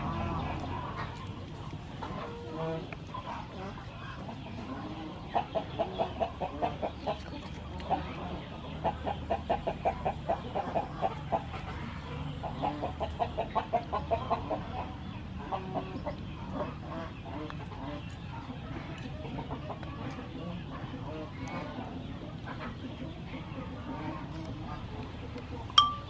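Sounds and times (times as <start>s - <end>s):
chicken clucking: 0.0s - 26.0s.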